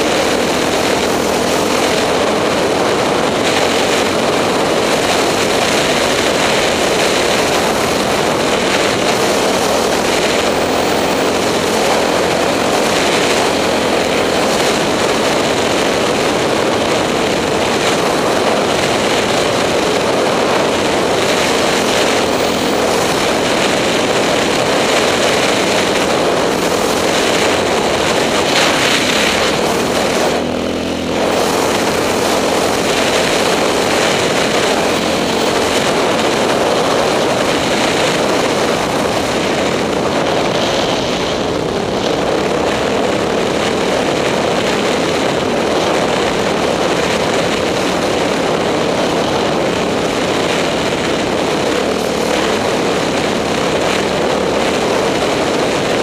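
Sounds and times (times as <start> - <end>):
motorcycle engine running: 0.0 - 56.0
wind over microphone: 0.0 - 56.0.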